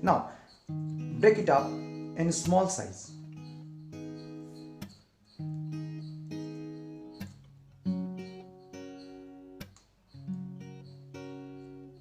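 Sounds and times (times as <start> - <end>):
acoustic guitar plucked chords: 0.0 - 12.0.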